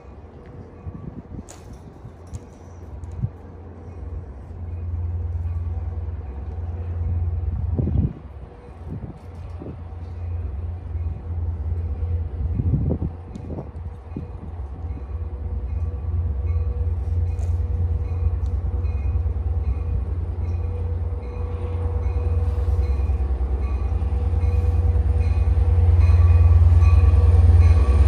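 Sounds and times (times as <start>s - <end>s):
train approaching: 0.0s - 28.0s.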